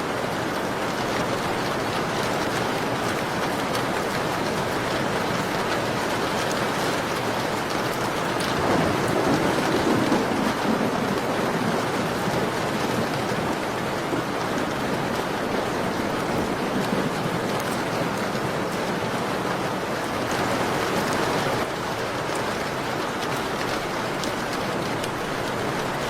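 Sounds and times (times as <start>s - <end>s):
rain on a window pane: 0.0s - 26.0s.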